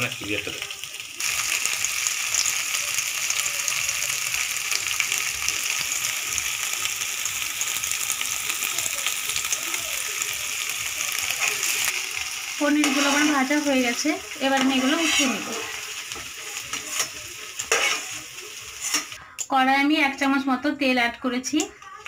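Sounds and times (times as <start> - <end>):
frying in hot oil sizzling: 0.0 - 22.0.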